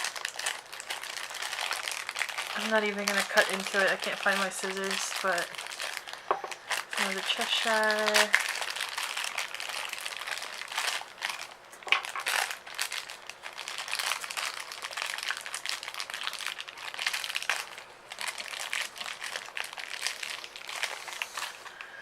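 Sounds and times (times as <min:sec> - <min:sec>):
toy packaging crackling: 0:00.0 - 0:21.9.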